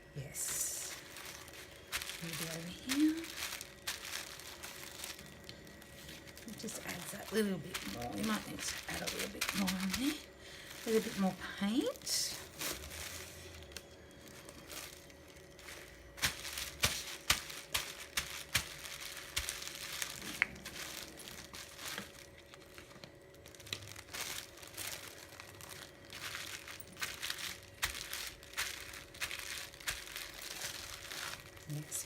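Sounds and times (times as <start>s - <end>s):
bubble wrap crackling: 0.1s - 32.0s.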